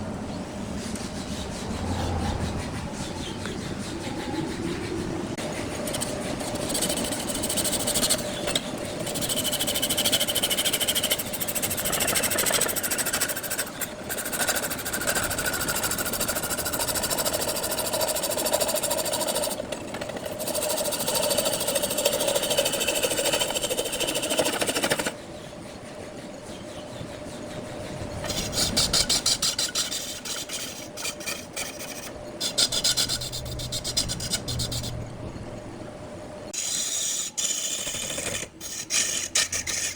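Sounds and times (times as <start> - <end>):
tool scraping spinning wood: 0.8 - 35.1, 36.5 - 39.9
lathe hum: 3.0 - 39.9.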